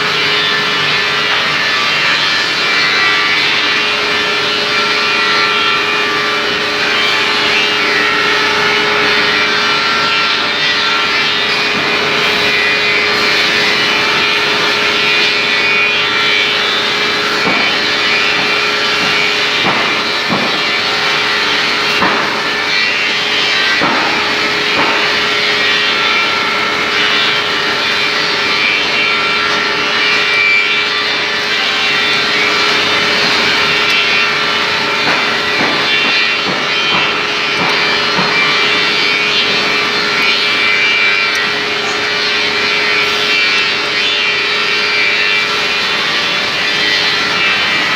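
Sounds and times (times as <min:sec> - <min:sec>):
floor sanding machine running: 0:00.0 - 0:47.9.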